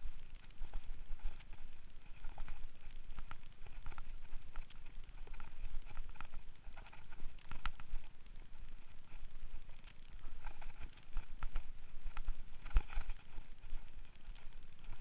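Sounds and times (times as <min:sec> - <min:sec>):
low rumble of wind: 0:00.0 - 0:15.0.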